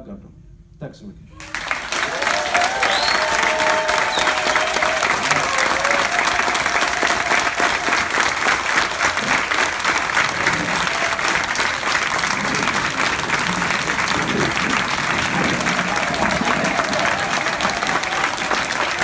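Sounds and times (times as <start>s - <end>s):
audience applauding: 1.4s - 19.0s.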